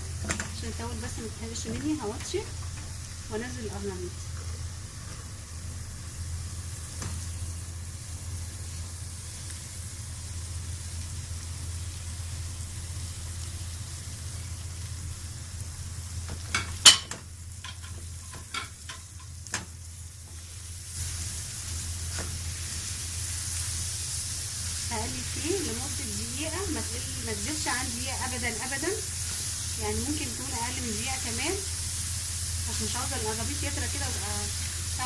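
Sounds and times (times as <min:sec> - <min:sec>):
vegetables sizzling in hot oil: 0:00.0 - 0:35.0.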